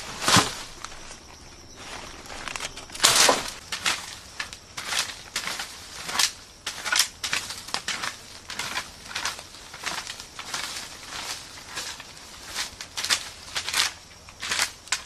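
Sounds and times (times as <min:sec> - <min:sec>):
broom sweeping leaves on ground: 0:00.0 - 0:01.2, 0:01.8 - 0:13.8.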